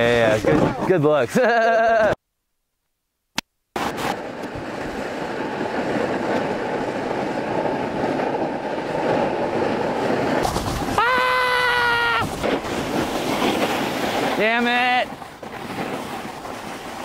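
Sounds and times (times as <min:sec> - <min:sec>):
snowboard scraping on snow: 0:00.0 - 0:01.8, 0:03.8 - 0:17.0.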